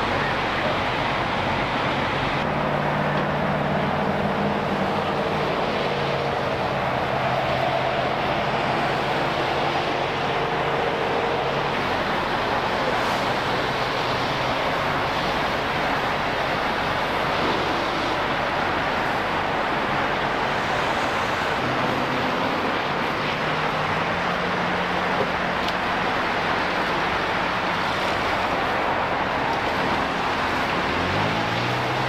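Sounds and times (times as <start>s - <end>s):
steady rushing noise: 0.0s - 32.0s
vehicle engine hum: 0.0s - 32.0s.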